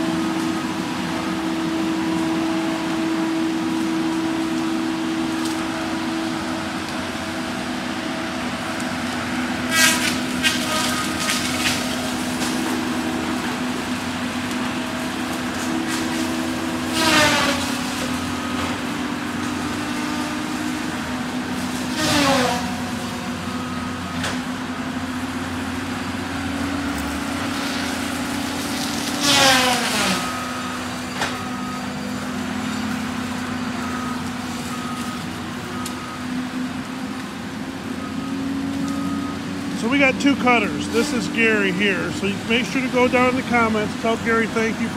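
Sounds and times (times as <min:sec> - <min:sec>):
diesel engine running: 0:00.0 - 0:44.9
disc saw cutting trees: 0:00.0 - 0:44.9.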